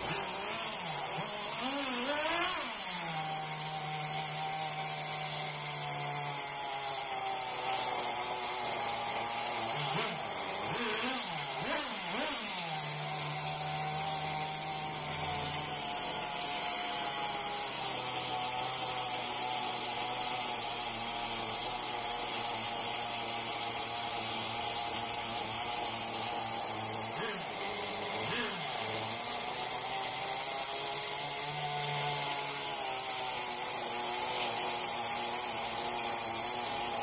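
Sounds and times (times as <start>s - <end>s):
small engine idling and revving: 0.0s - 37.0s.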